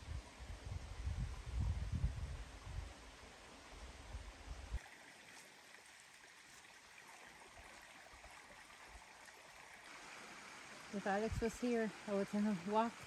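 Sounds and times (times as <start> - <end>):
small stream trickling: 0.0 - 13.0.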